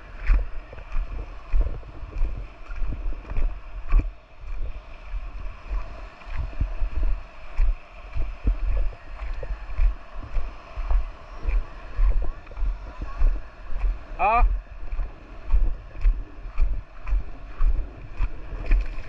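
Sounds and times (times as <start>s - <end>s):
footsteps on coral rubble: 0.0s - 19.0s
surf washing on reef: 0.0s - 19.0s
wind buffeting microphone: 0.0s - 19.0s.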